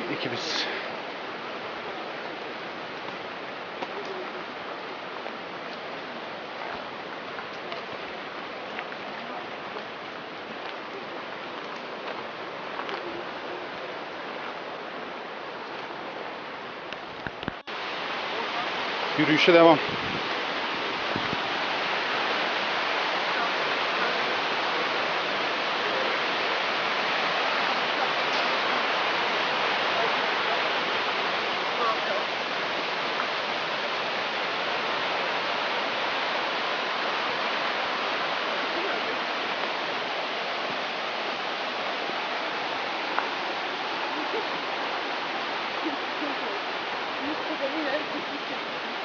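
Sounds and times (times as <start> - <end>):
stream water roaring: 0.0 - 49.0.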